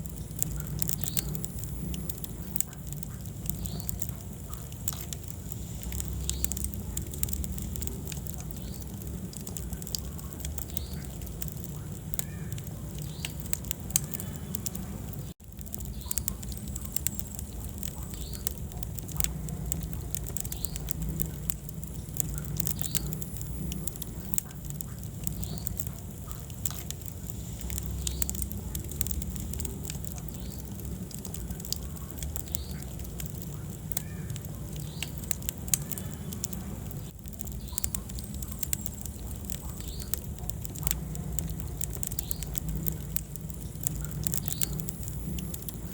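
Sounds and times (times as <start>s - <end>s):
low rumble of flame: 0.0s - 45.9s
wood fire crackling and popping: 0.0s - 45.9s.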